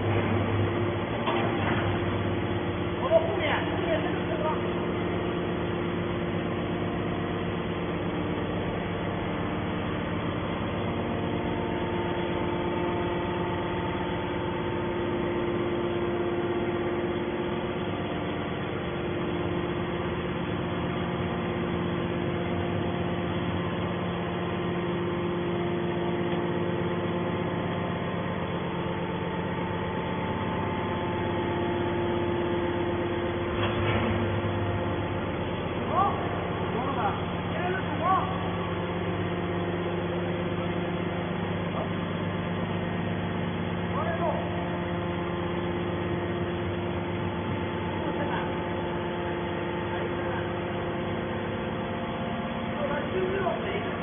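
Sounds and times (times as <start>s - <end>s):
hydraulic power unit humming: 0.0s - 54.0s.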